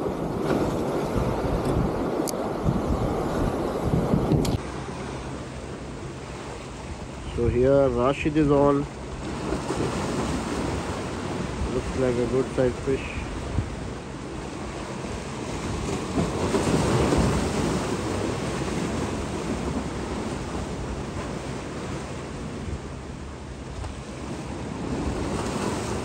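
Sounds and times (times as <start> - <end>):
sea waves washing against concrete: 0.0 - 26.0
wind buffeting microphone: 0.0 - 26.0.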